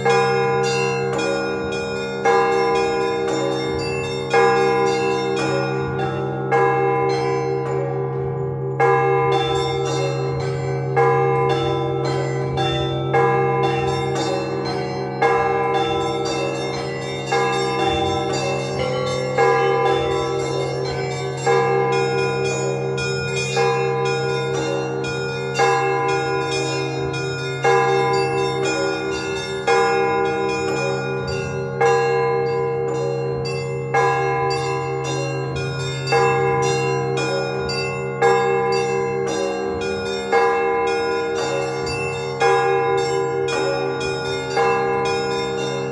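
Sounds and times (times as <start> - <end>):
smaller bells ringing fast: 0.0 - 45.9
heavy bell strokes: 8.8 - 45.9.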